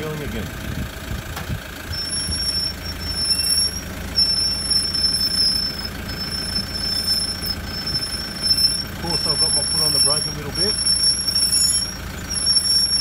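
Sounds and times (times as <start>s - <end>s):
low engine rumble: 0.0s - 13.0s
high-pitched brake squeal: 1.9s - 13.0s.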